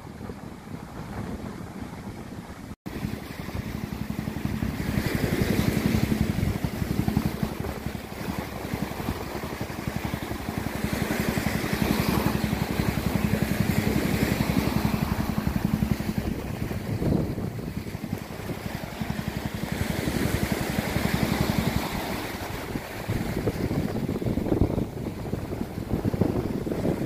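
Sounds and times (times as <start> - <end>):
small boat engine running: 0.0 - 27.0
waves washing: 0.0 - 27.0.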